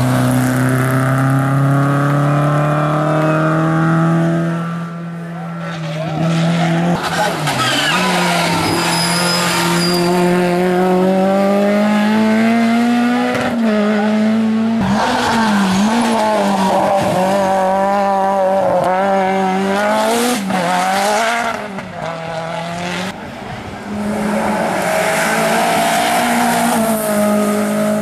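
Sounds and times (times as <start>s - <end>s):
race car engine at high revs: 0.0s - 28.0s.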